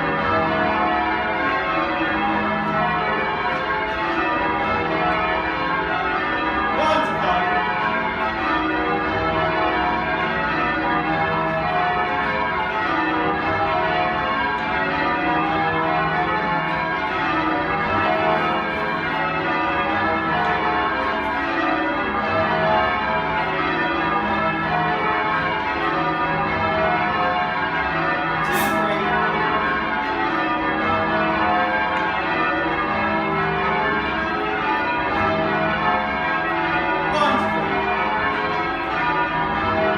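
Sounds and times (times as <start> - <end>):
church bells ringing changes: 0.0 - 39.9.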